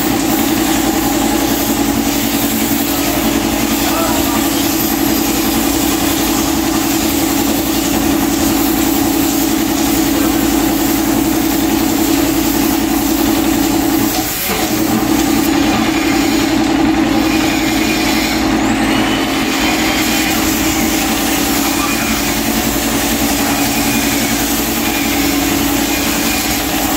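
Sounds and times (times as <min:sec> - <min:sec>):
air compressor running: 0:00.0 - 0:26.9
spray gun hissing: 0:00.0 - 0:26.9.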